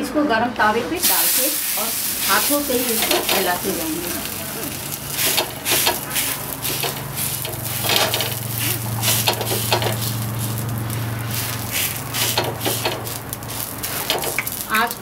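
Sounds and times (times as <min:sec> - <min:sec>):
dough sizzling: 0:00.9 - 0:15.0
low hum: 0:01.6 - 0:14.8.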